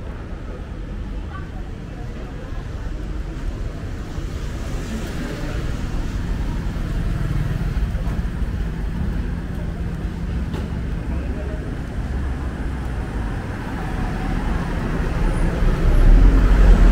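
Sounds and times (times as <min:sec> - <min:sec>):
motor vehicles running: 0:00.0 - 0:16.9.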